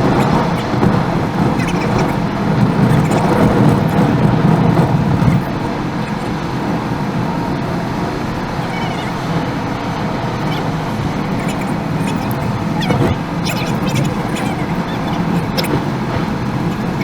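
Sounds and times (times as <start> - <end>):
car driving rumble: 0.0 - 17.0.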